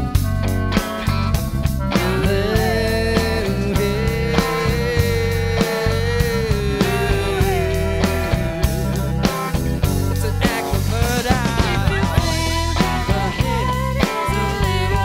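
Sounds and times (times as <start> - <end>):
electric bass: 0.0 - 15.0
electric guitar: 0.0 - 15.0.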